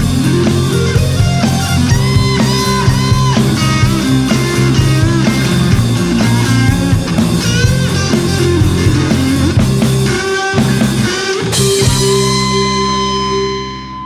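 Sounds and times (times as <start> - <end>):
electric guitar bent notes: 0.0 - 14.0
funk band playing: 0.0 - 14.0.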